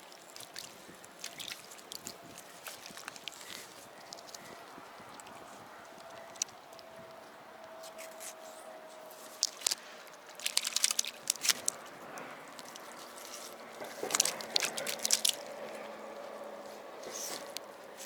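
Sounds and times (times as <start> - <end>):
crunching and clicking handling: 0.0 - 18.0.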